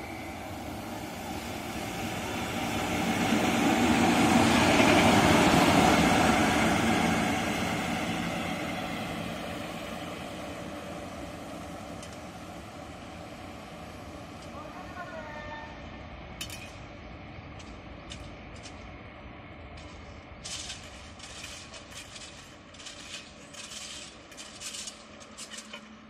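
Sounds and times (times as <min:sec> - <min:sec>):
locomotive motors humming: 0:00.0 - 0:26.0
locomotive wheels on rails: 0:00.0 - 0:26.0.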